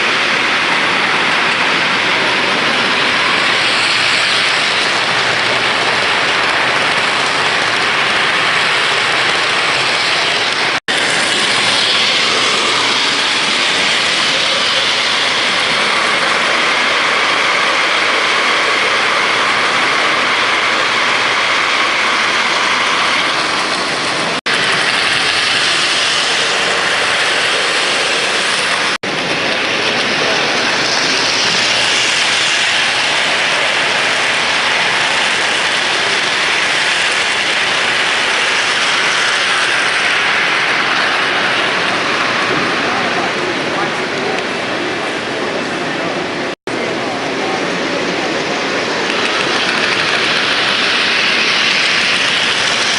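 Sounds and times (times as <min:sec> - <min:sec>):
model trains rolling on track: 0:00.0 - 0:52.9.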